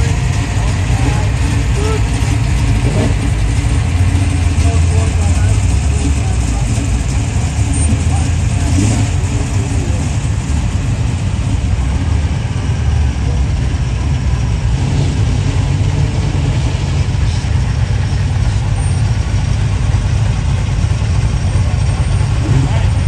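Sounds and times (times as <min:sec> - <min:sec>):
car engines rolling past slowly: 0:00.0 - 0:23.0.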